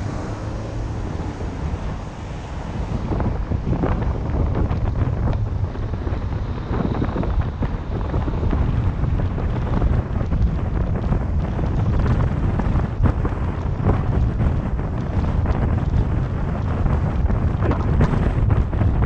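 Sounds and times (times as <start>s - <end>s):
tyre and road noise: 0.0s - 19.0s
wind buffeting microphone: 0.0s - 19.0s.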